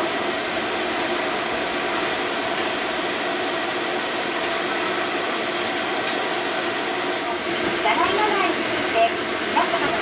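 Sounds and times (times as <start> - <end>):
tram motor hum and rolling: 0.0 - 10.0.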